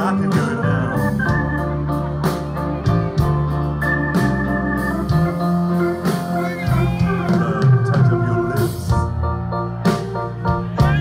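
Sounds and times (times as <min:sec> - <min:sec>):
electric bass: 0:00.0 - 0:11.0
grand piano: 0:00.0 - 0:11.0
hammond organ chords: 0:00.0 - 0:11.0.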